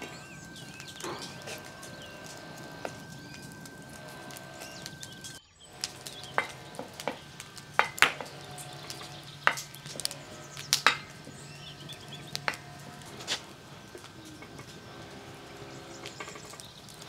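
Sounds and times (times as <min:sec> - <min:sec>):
butter sizzling: 0:00.0 - 0:17.0.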